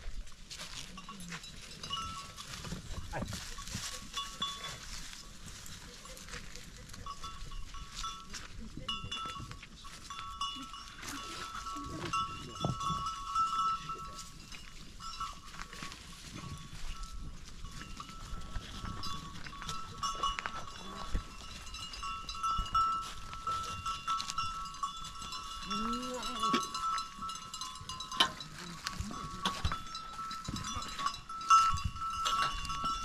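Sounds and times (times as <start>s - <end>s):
animal neck bells jingling: 0.0s - 33.0s.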